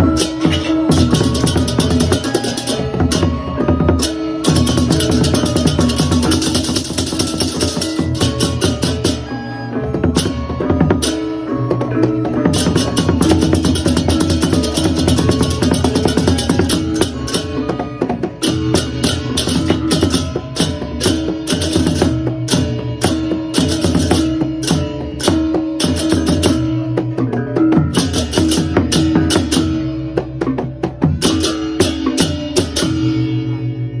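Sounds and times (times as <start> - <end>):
drums: 0.0 - 34.0.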